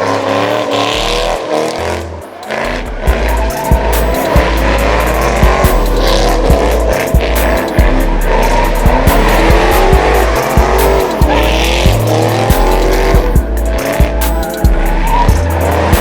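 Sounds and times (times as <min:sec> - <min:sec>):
bass-heavy music with steady beat: 0:00.0 - 0:16.0
car tyres squealing: 0:00.0 - 0:16.0.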